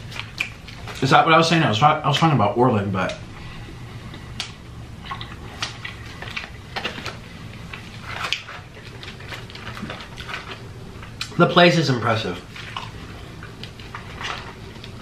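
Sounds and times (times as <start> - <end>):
chewing food: 0.0 - 1.1, 3.0 - 11.4, 12.4 - 15.0.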